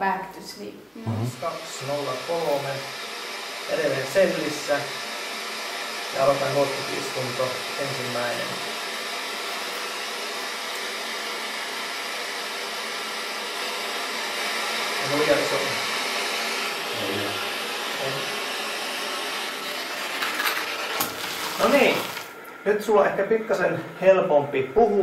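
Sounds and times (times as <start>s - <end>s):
static hiss: 1.0s - 25.0s.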